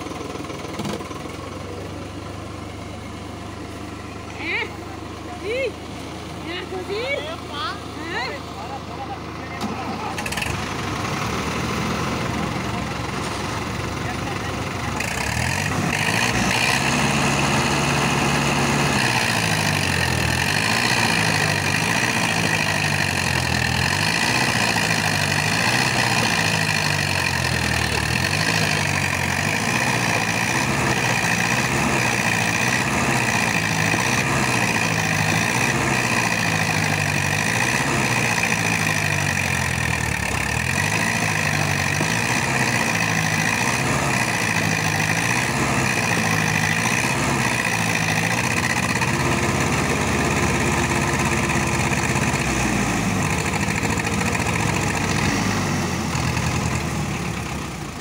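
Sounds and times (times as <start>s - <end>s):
diesel tractor engines straining: 0.0s - 58.0s.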